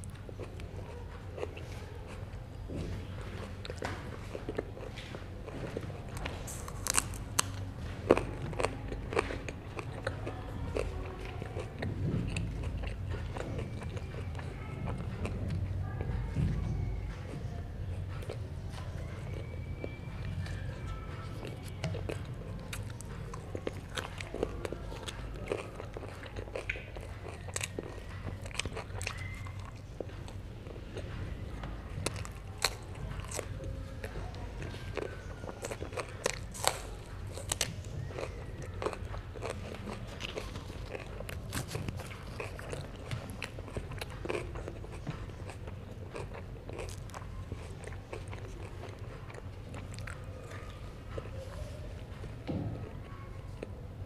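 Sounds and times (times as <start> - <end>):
crunchy chewing mouth sounds: 0.0 - 54.0.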